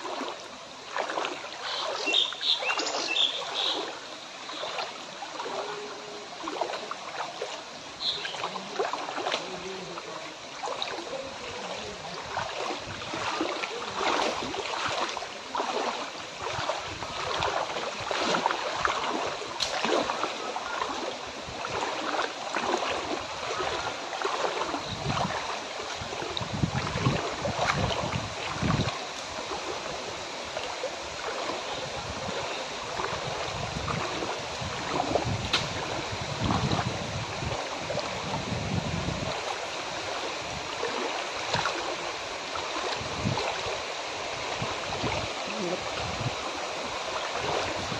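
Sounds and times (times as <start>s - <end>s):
floodwater splashing and sloshing: 0.0s - 47.9s.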